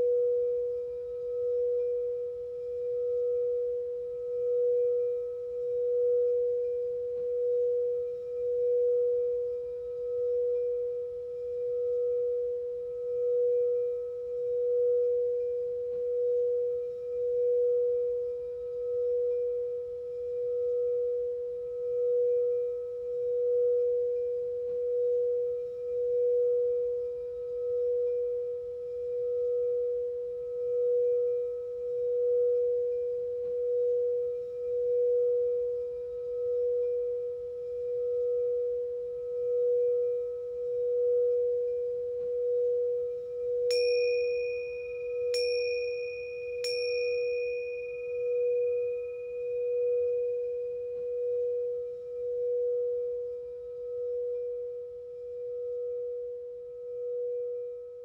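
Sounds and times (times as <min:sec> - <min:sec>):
singing bowl note: 0:00.0 - 0:58.0.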